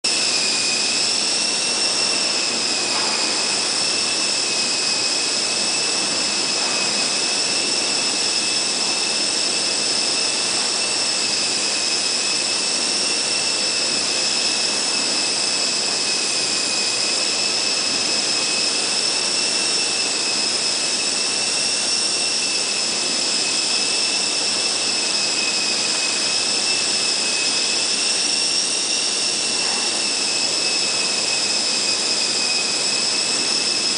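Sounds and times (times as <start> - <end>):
micro helicopter whine: 0.1 - 33.9.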